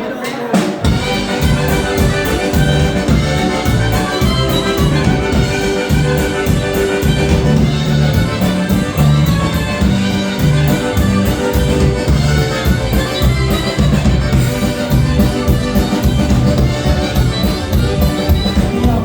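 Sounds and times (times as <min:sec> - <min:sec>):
polka band playing: 0:00.5 - 0:19.0.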